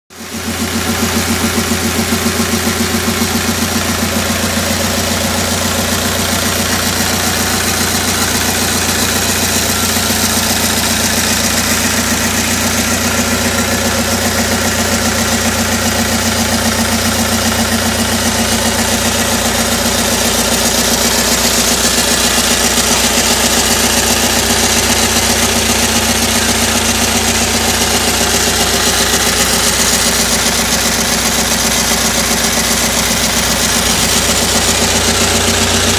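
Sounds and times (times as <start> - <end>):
diesel engine running steadily: 0.1 - 35.9.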